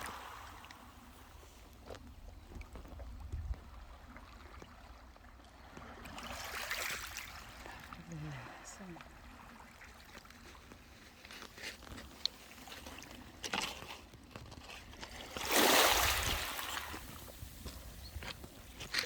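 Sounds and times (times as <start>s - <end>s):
seawater sloshing: 0.0s - 19.0s.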